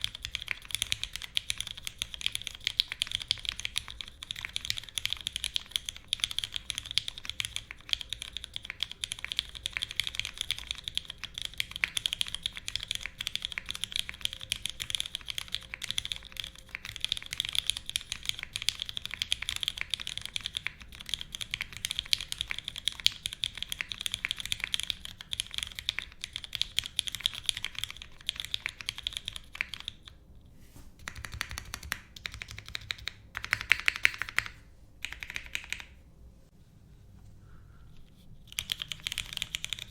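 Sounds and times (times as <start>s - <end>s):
typing on mechanical keyboard: 0.0s - 30.2s, 31.0s - 36.0s, 38.4s - 39.9s.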